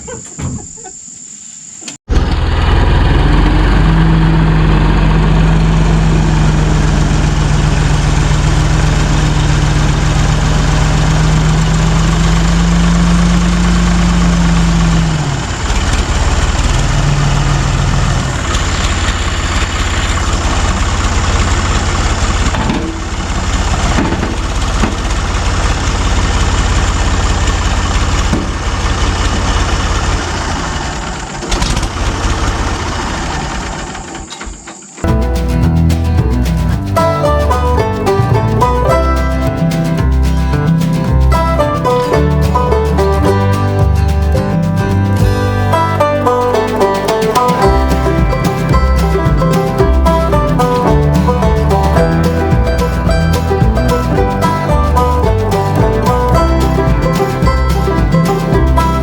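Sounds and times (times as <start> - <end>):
backhoe engine humming: 2.1 - 34.2, 35.0 - 59.0.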